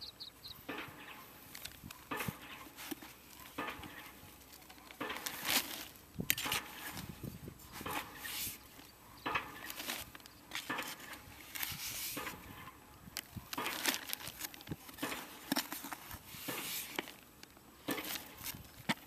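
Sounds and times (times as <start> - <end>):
soil patter: 0.0 - 19.0
trowel scraping soil: 1.0 - 19.0
plastic bag rustling: 1.2 - 19.0.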